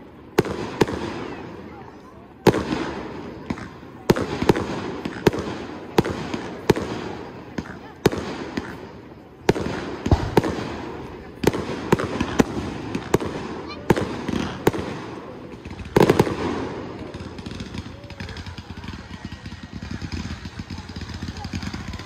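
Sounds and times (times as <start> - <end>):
rapid fireworks crackling: 0.0 - 22.0.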